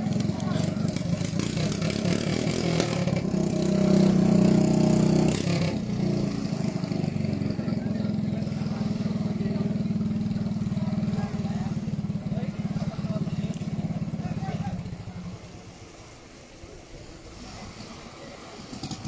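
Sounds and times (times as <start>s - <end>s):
engine revving: 0.0s - 15.3s
small boat engines running: 0.0s - 19.0s.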